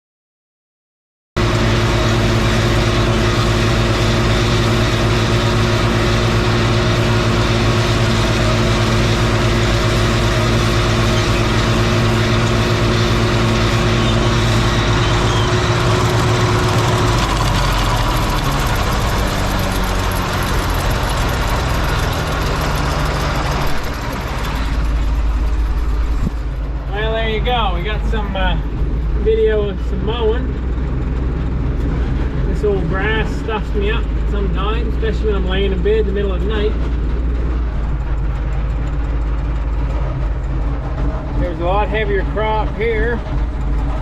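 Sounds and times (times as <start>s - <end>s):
tractor engine running: 1.4s - 44.0s.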